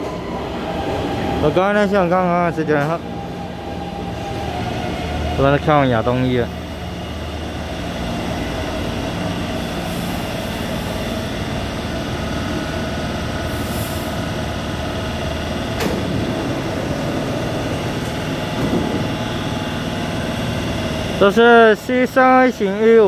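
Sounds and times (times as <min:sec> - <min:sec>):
train wheels and motors rumbling: 0:00.0 - 0:23.0.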